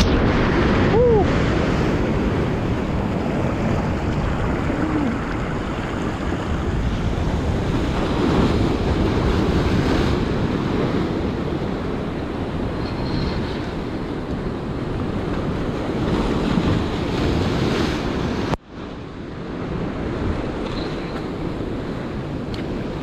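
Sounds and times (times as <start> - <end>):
surf breaking over rocks: 0.0 - 18.6
wind buffeting microphone: 0.0 - 23.0.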